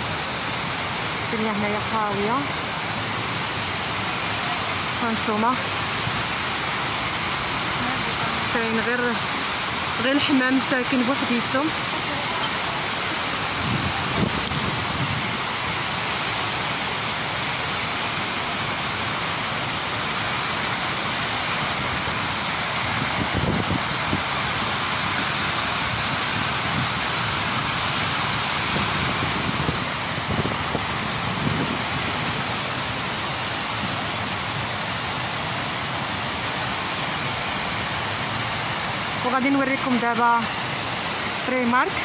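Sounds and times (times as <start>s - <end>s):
water spilling over fountain: 0.0s - 42.0s.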